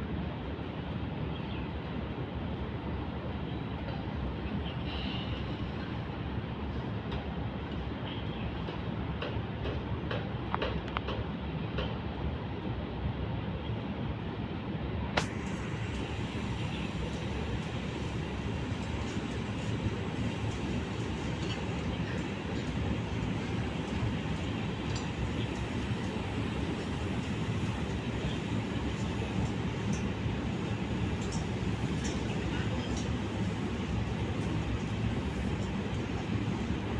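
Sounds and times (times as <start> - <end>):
train rumbling: 0.0 - 36.9.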